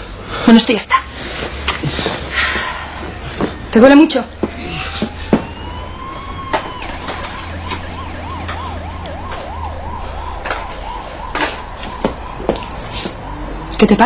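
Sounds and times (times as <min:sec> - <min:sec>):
emergency siren warbling: 0:02.7 - 0:14.0.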